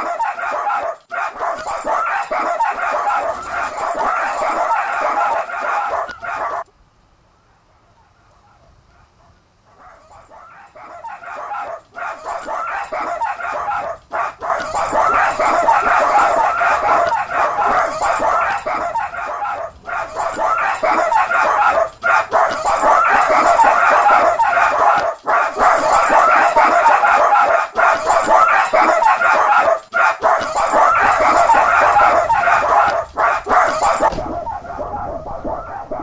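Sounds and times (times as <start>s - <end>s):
many dogs barking: 0.0s - 6.7s, 8.2s - 36.0s.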